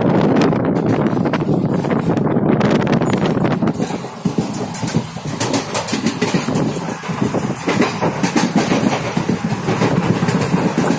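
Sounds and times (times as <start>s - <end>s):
steady rushing noise: 0.0s - 10.9s
train wheels clattering over rails: 0.1s - 10.9s.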